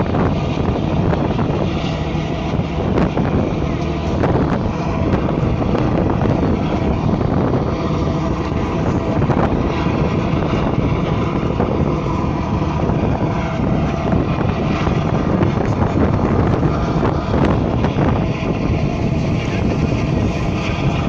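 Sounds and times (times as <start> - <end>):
boat engine drone: 0.0 - 21.0
wind buffeting microphone: 0.0 - 21.0.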